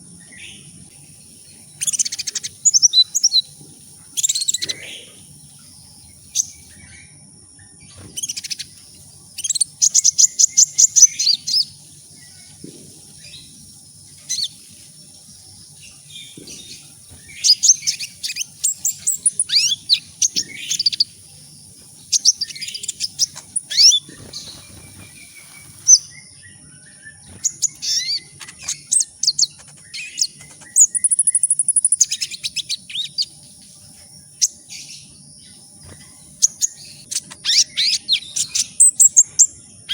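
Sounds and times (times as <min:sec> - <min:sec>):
sunbird chirps and trills: 0:00.0 - 0:39.9.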